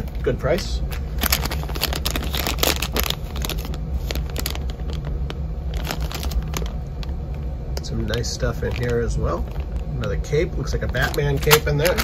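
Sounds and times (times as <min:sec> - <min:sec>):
plastic bag crinkling: 0:00.0 - 0:12.0
steady low hum: 0:00.0 - 0:12.0.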